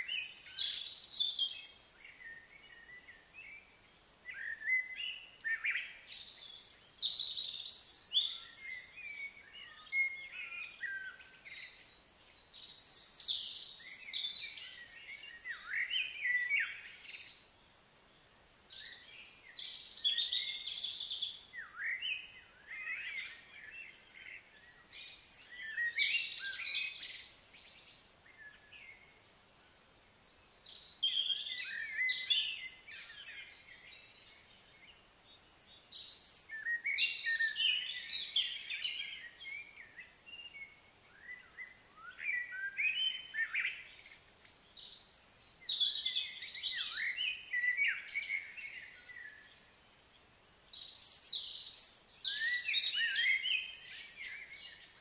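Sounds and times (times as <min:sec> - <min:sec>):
birds chirping and singing: 0:00.0 - 0:17.4, 0:18.4 - 0:29.2, 0:30.4 - 0:49.7, 0:50.4 - 0:55.0.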